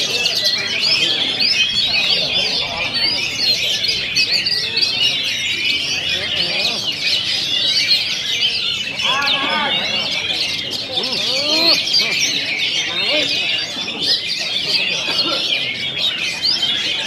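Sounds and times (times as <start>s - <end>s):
birds singing in chorus: 0.0s - 17.0s.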